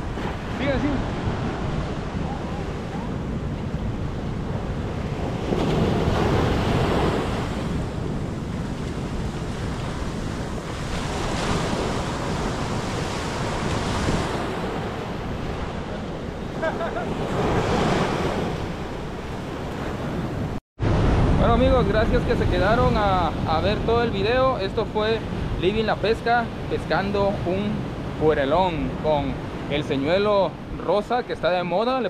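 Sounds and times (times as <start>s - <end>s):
wind buffeting microphone: 0.0s - 30.8s
ocean surf washing up beach: 0.0s - 32.0s.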